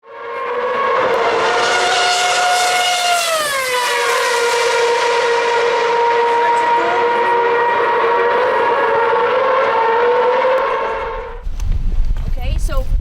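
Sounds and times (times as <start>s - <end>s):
high-pitched drone: 0.0s - 11.4s.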